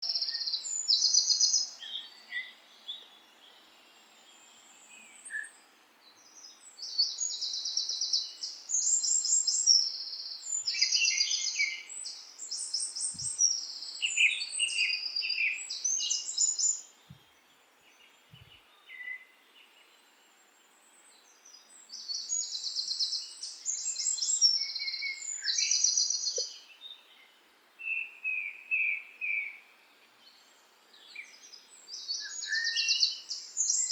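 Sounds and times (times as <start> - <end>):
lower bird chirps: 0.0 - 33.9
songbirds trilling: 0.0 - 33.9.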